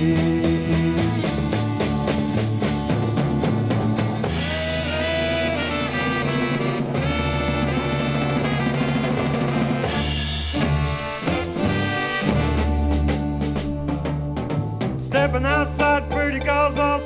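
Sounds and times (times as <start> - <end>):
horn section sustained notes: 0.0 - 14.6
bass and drums: 0.0 - 17.0.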